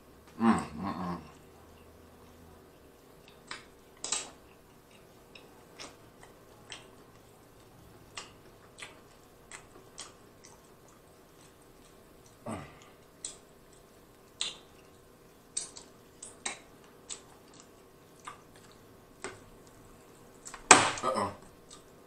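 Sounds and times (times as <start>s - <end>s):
wet eating smacks and clicks: 3.0s - 22.0s.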